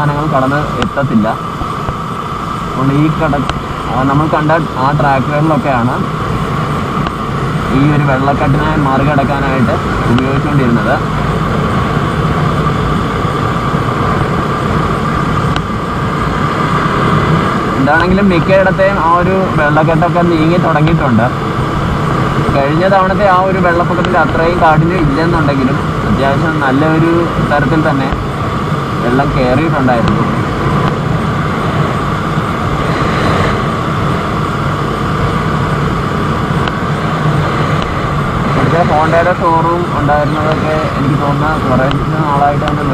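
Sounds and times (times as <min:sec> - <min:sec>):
motorcycle engine drone: 0:00.0 - 0:42.9
wind and road noise: 0:00.0 - 0:42.9.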